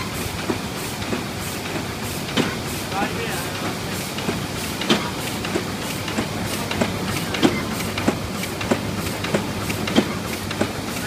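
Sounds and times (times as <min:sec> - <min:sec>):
printing press clatter: 0:00.0 - 0:11.0.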